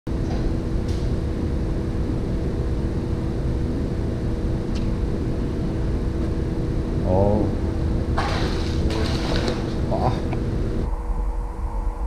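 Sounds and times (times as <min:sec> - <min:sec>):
machinery hum and rumble: 0:00.1 - 0:12.0.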